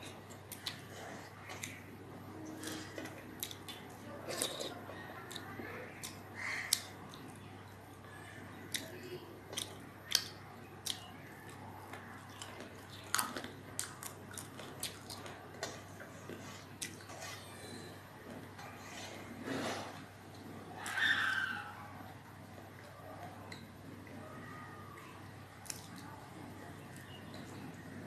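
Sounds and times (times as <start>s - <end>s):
chewing with wet smacks: 0.0s - 21.1s, 22.5s - 24.2s, 24.9s - 28.0s.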